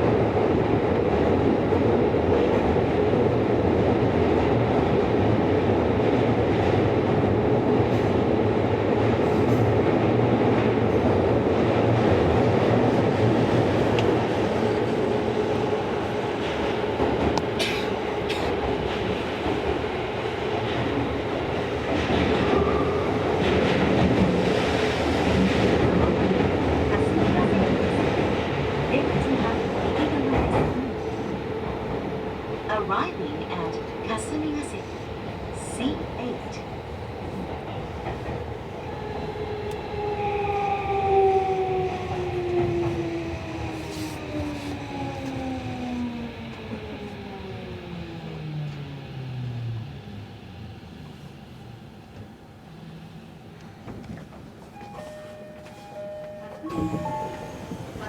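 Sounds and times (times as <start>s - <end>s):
subway wheels rumbling on rail: 0.0s - 58.0s.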